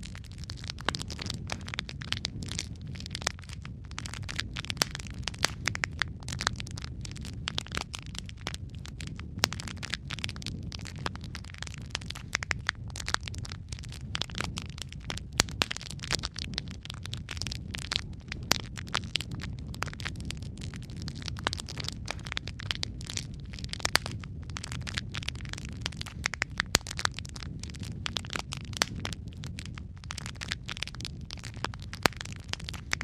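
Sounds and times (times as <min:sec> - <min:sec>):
logs crackling and popping: 0:00.0 - 0:33.0
low rumble of flame: 0:00.0 - 0:33.0.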